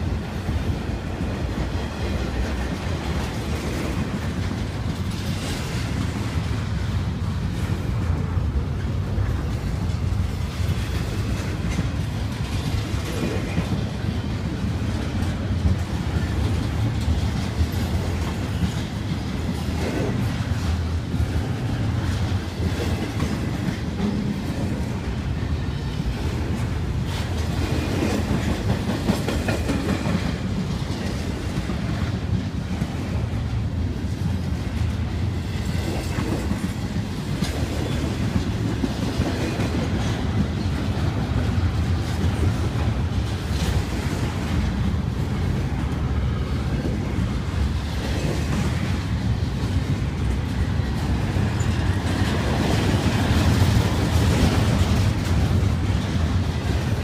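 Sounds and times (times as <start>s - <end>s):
freight train wheels clicking: 0.0s - 57.0s
train low rumble: 0.0s - 57.0s.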